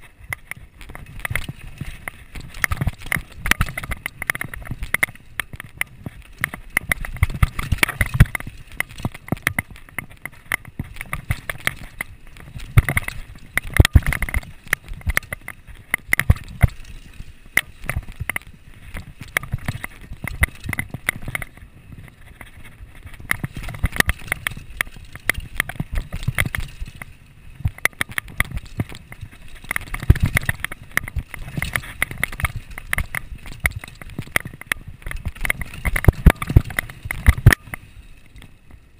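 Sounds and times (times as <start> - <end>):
mountain bike rattling: 0.0 - 38.9
tyres rushing on dirt: 0.0 - 38.9.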